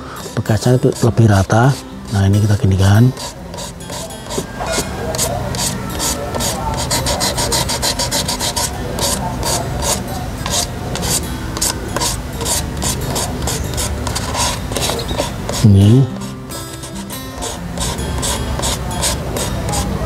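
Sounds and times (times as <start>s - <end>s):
abrasive paper rubbing on plastic: 0.0s - 20.0s.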